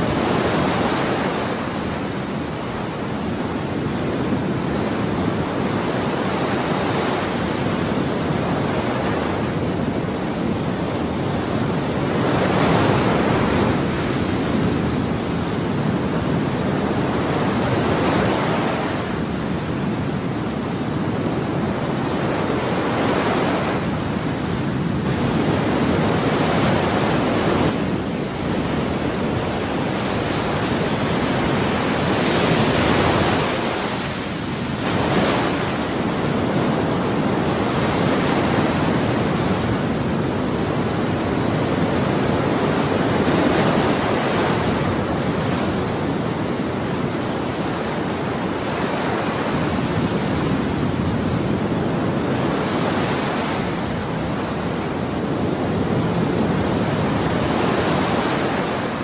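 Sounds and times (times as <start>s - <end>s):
ocean waves washing onto shore: 0.0s - 59.0s.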